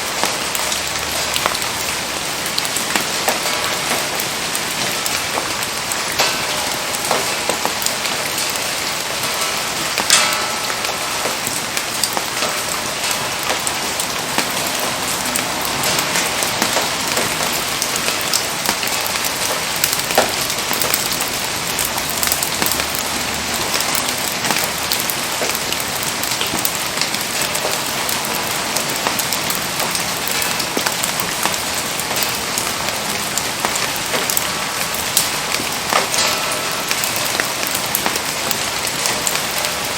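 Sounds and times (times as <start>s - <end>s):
raindrops ticking on surfaces: 0.0s - 39.9s
steady rain falling: 0.0s - 39.9s.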